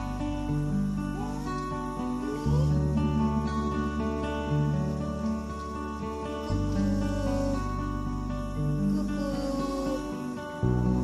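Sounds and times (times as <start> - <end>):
gentle acoustic guitar music: 0.0 - 11.0.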